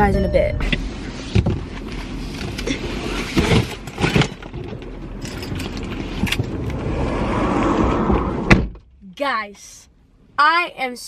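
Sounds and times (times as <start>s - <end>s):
car low rumble: 0.0s - 10.5s.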